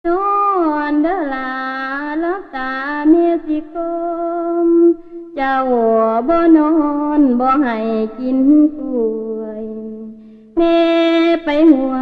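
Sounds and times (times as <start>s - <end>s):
person singing: 0.1s - 12.0s.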